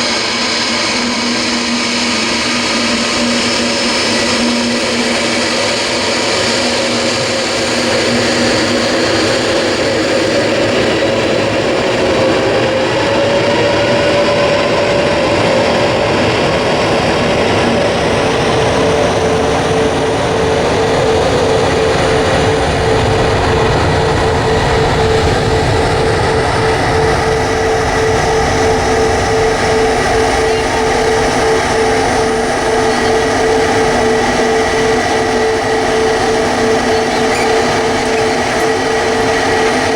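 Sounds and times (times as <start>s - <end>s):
jet engine whine: 0.0s - 39.9s
jet engines at takeoff: 0.0s - 39.9s.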